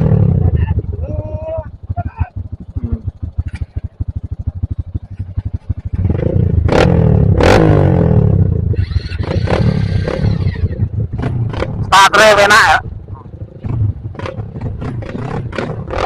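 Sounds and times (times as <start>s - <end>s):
motorcycle engine revving: 0.0s - 16.0s
sharp exhaust cracks: 0.0s - 16.0s.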